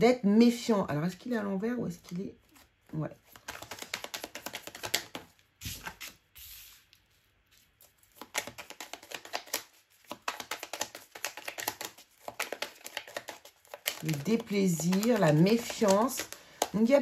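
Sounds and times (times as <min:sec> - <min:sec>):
cards being shuffled: 0:02.5 - 0:17.0.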